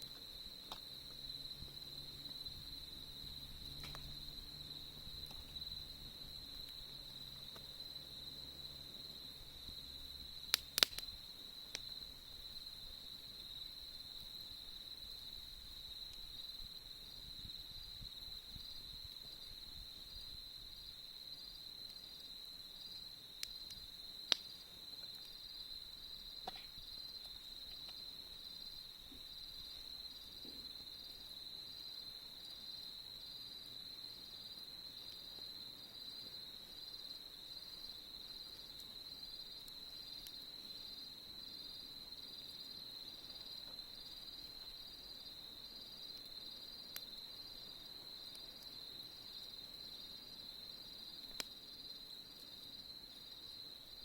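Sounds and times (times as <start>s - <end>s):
campfire popping: 0.0s - 54.0s
crickets chirping: 0.0s - 54.0s.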